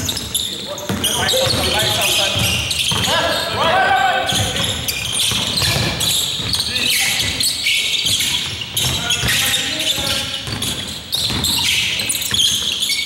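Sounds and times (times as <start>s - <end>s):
basketball bouncing on court: 0.0s - 13.0s
voices of players and spectators: 0.0s - 13.0s.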